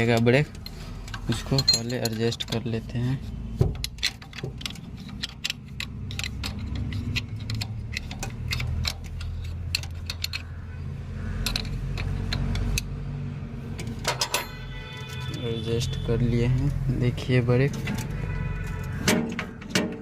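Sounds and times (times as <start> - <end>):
metal tools clinking: 0.0 - 10.8, 13.8 - 20.0.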